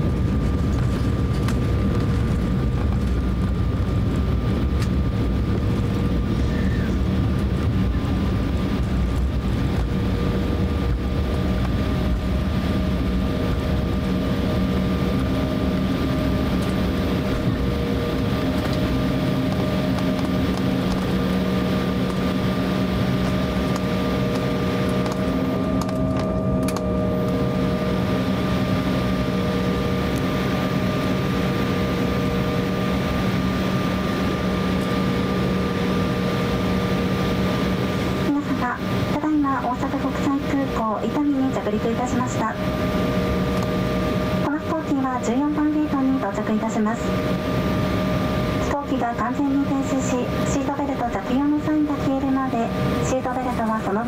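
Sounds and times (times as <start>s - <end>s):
jet engines humming: 0.0s - 54.0s.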